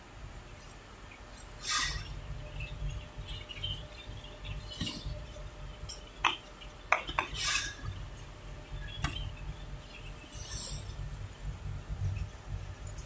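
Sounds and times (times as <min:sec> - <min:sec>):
conveyor humming: 0:00.0 - 0:13.0.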